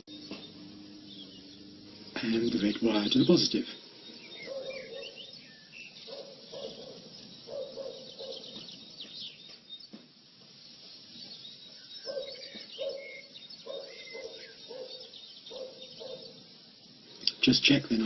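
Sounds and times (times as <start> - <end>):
birds chirping and twittering: 0.0 - 18.0.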